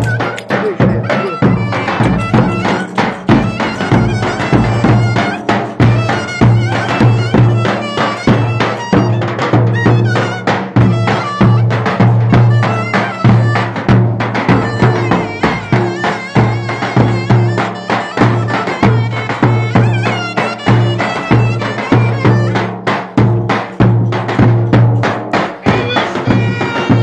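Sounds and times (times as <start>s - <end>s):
ornamented folk melody: 0.0s - 27.0s
steady drum beat: 0.0s - 27.0s.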